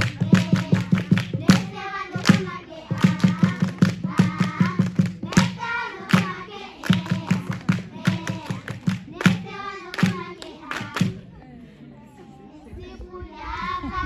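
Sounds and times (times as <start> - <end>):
rhythmic hand clapping: 0.0 - 11.3
voices singing together: 0.0 - 14.0.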